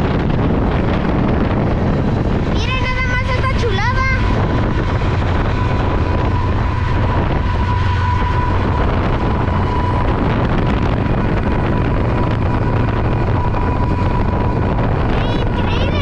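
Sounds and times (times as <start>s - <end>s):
diesel locomotive rumbling past: 0.0s - 16.0s
thin high whine: 0.7s - 16.0s.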